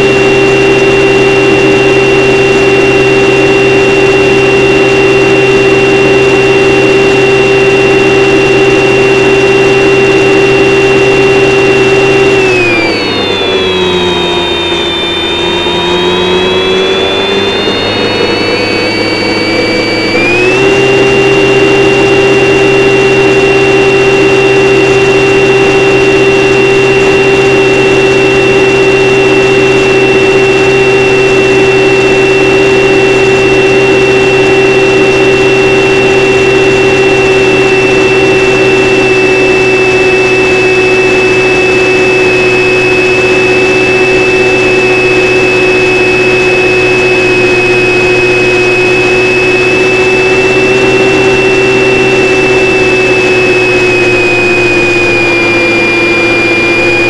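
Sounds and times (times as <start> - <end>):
model airplane motor whining: 0.0 - 57.0.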